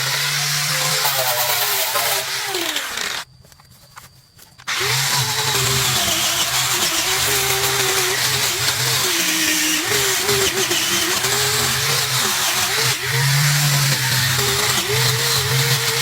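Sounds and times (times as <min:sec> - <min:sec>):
motor running: 0:00.0 - 0:03.3, 0:04.7 - 0:16.0.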